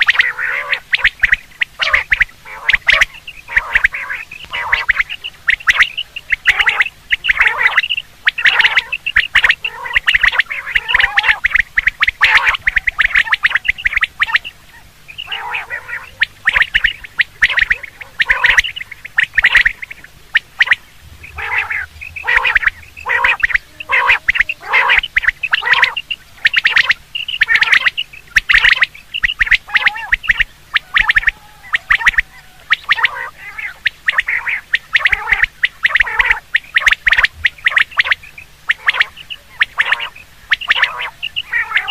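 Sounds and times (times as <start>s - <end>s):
quail calling: 0.0s - 41.9s.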